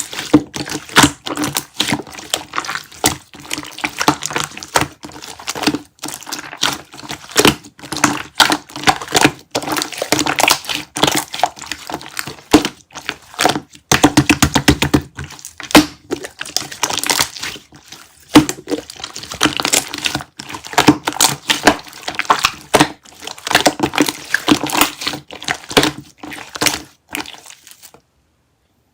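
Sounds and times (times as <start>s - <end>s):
slime squished by hand: 0.0s - 28.0s.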